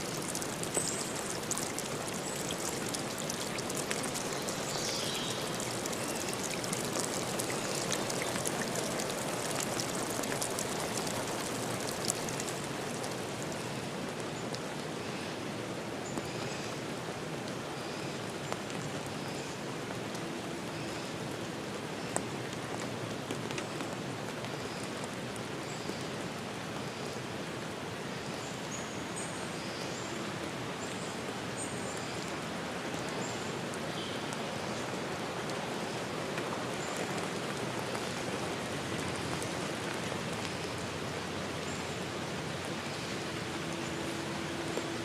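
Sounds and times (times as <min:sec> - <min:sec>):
flowing river water: 0:00.0 - 0:45.0.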